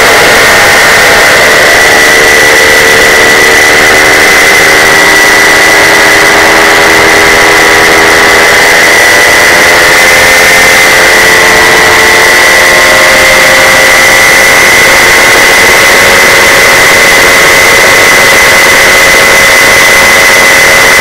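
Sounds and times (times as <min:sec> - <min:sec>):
paramotor engine and propeller: 0:00.0 - 0:21.0.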